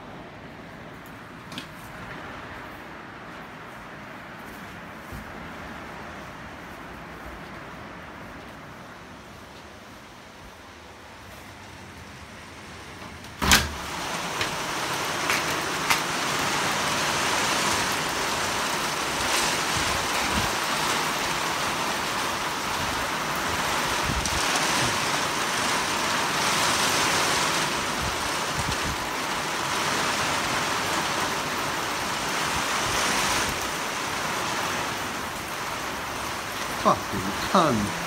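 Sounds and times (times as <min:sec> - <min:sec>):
heavy rain on paving: 0:00.0 - 0:38.0.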